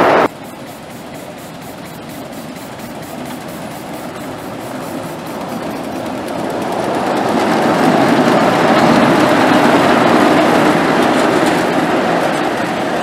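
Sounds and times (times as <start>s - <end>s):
miniature steam locomotive running: 0.0s - 13.0s.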